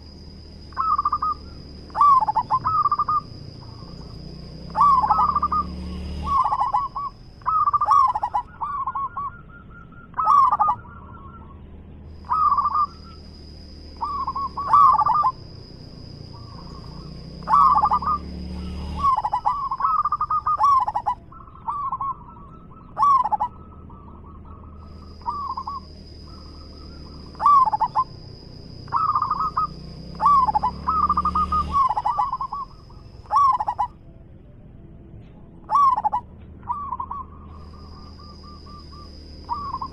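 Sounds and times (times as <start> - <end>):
dove cooing: 0.0 - 34.1, 35.2 - 39.9.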